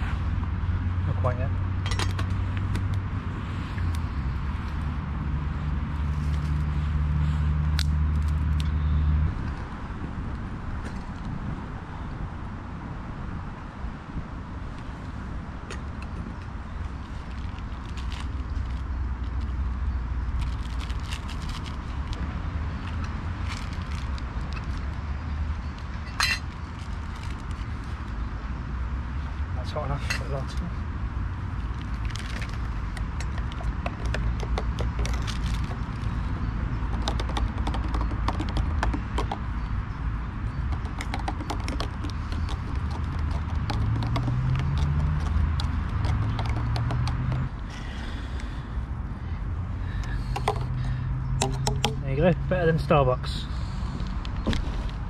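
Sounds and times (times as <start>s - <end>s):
distant road traffic rumble: 0.0s - 55.0s.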